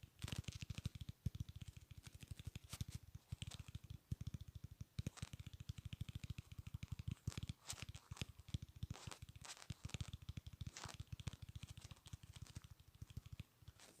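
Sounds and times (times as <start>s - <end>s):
rapid sharp clicking: 0.0s - 14.0s.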